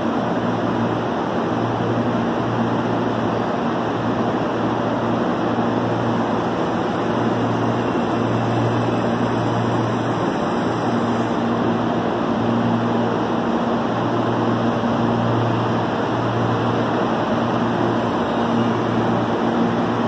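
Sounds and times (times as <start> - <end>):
electric train hum: 0.0 - 20.0
train rumble: 0.0 - 20.0.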